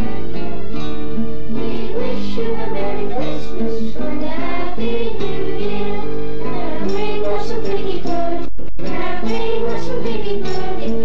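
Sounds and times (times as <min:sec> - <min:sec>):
choir singing carol: 0:00.0 - 0:11.0
instrumental backing music: 0:00.0 - 0:11.0.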